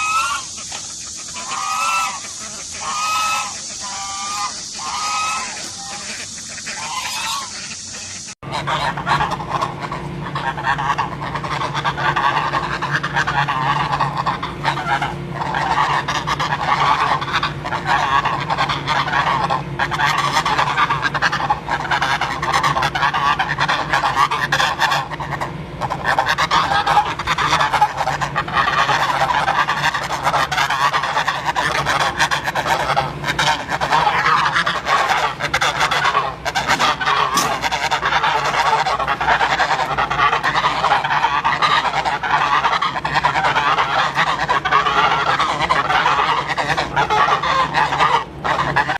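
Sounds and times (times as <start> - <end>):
geese honking: 0.0 - 48.9.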